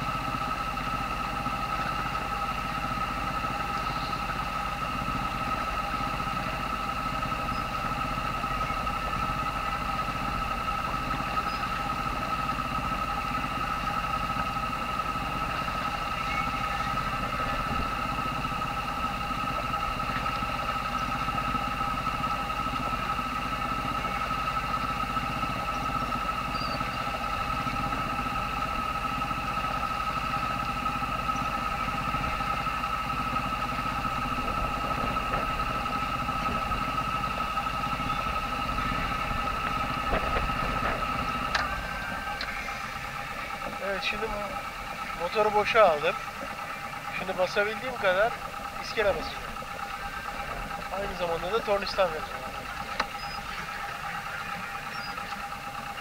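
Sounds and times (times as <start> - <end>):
boat engine low rumble: 0.0 - 56.0
engine high whine: 0.0 - 56.0.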